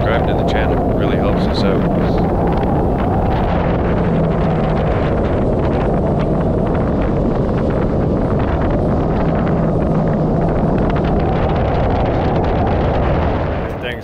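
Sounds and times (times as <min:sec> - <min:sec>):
jet ski engine drone: 0:00.0 - 0:14.0
wind buffeting microphone: 0:00.0 - 0:14.0.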